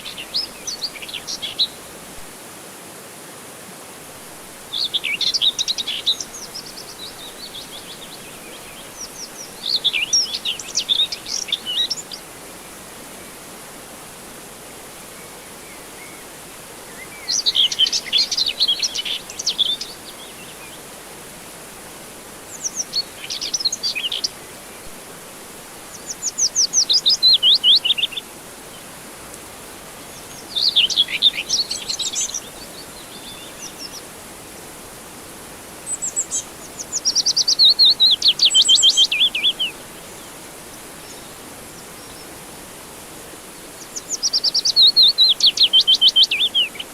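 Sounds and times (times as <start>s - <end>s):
songbirds chirping: 0.0s - 2.4s, 4.6s - 13.7s, 14.4s - 46.9s
low steady hiss: 0.0s - 46.9s.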